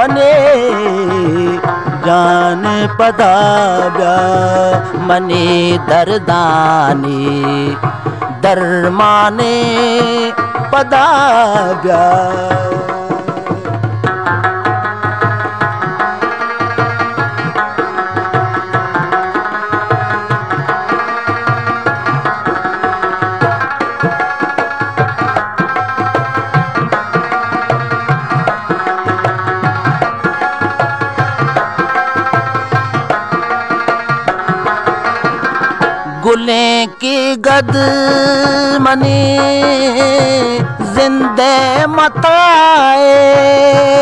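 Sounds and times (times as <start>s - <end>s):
drum repeating rhythm: 0.0s - 44.0s.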